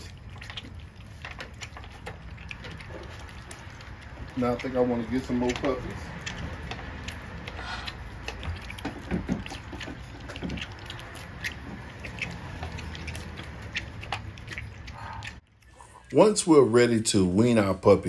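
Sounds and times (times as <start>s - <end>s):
puppies lapping milk: 0.0s - 18.0s.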